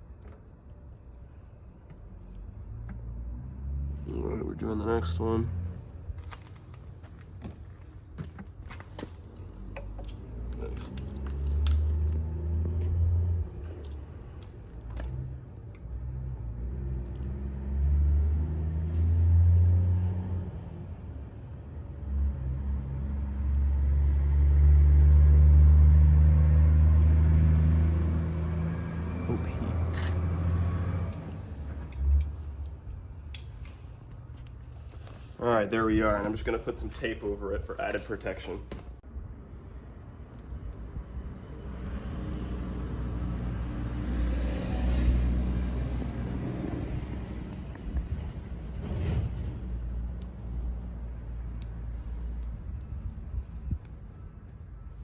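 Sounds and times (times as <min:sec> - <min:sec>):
low engine hum: 0:01.4 - 0:35.2, 0:38.6 - 0:55.0.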